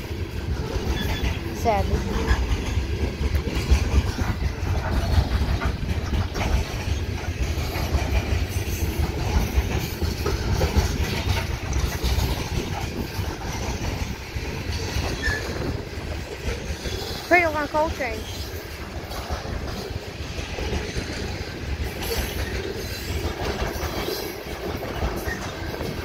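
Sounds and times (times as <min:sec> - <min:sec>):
train wheels clattering: 0:00.0 - 0:26.0
train wheels rumbling on rails: 0:00.0 - 0:26.0.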